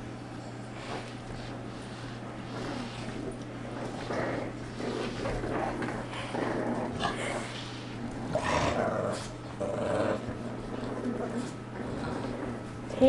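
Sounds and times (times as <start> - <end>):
puppies growling in play: 0.0 - 13.0.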